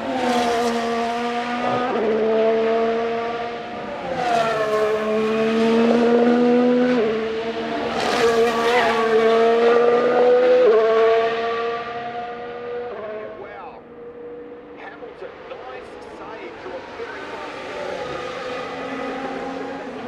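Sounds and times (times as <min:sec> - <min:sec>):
racing car engines passing: 0:00.0 - 0:20.0.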